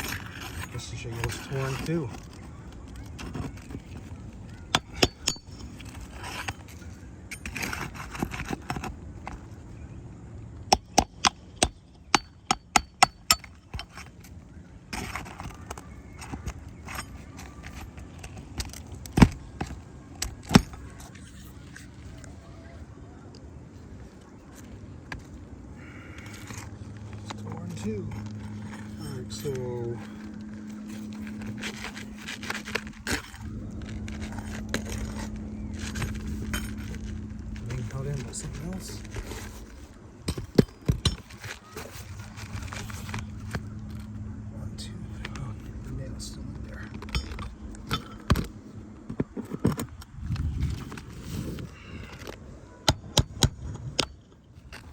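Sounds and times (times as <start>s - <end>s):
roof shingle scraping and clicking: 0.0s - 9.6s, 11.0s - 22.4s, 24.0s - 44.3s, 46.6s - 54.9s
steady low hum: 0.0s - 54.9s.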